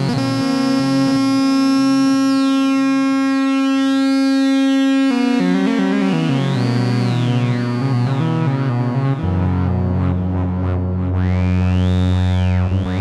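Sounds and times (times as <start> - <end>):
analogue bass synth: 0.0 - 3.8, 5.1 - 13.0.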